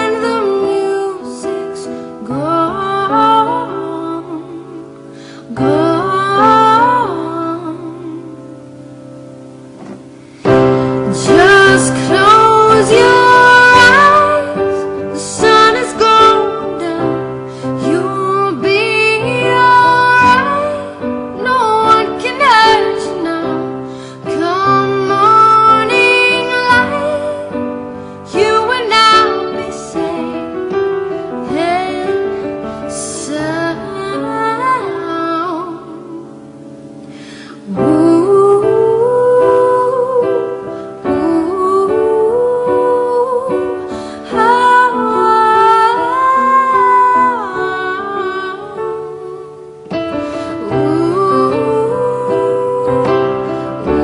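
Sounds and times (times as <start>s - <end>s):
person singing: 0.0s - 9.2s, 9.8s - 54.0s.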